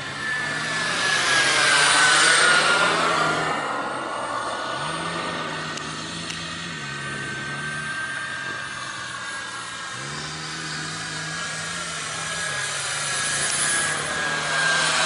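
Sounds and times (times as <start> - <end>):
model jet turbine whine: 0.0 - 15.0.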